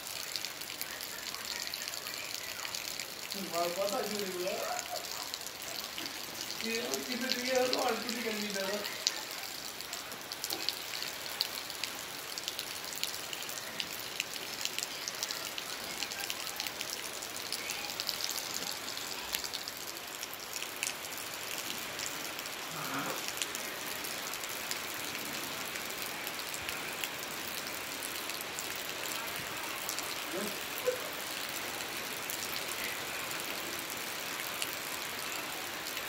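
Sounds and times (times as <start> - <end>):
rain falling: 0.0 - 36.0.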